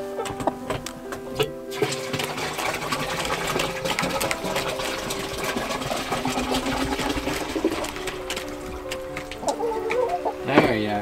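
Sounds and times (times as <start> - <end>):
hens clucking: 0.0 - 11.0
hens pecking a plastic tray: 1.8 - 10.9.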